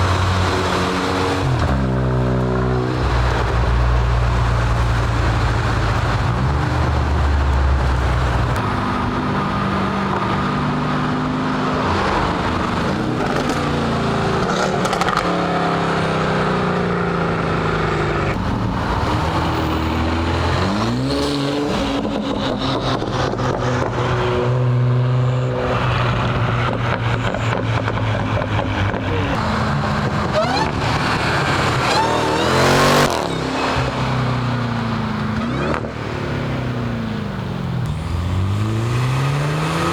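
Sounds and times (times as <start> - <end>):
cars driving past: 0.0 - 16.0, 17.4 - 39.9
car engines revving: 0.0 - 39.9.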